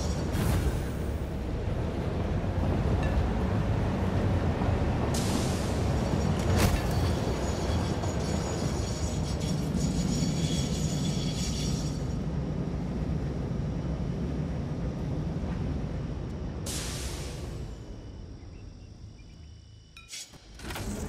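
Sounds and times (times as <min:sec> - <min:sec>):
moving vehicle rumbling: 0:00.0 - 0:21.0.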